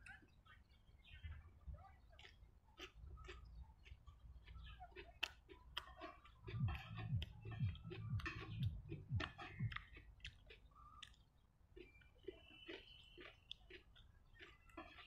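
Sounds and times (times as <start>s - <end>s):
man chewing food: 2.0s - 15.0s.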